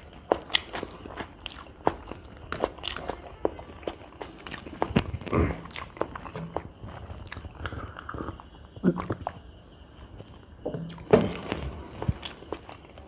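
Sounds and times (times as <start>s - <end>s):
wet chewing: 0.0s - 9.5s, 10.2s - 13.0s.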